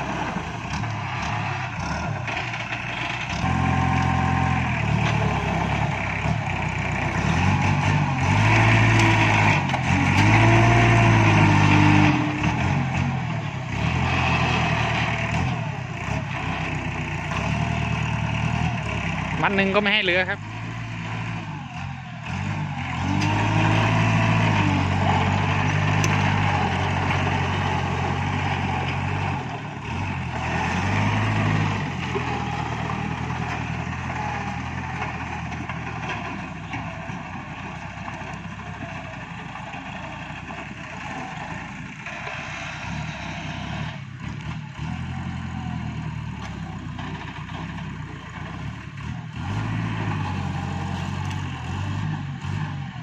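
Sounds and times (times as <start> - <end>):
diesel tractor engine running: 0.0 - 53.0.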